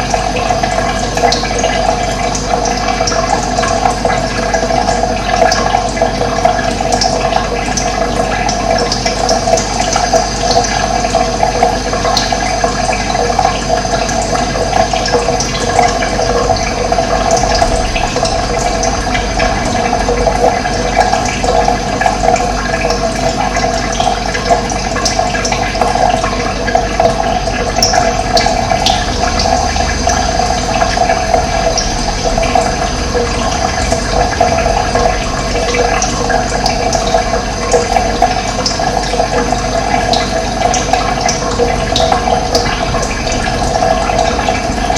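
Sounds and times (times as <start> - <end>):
running water: 0.0 - 44.9.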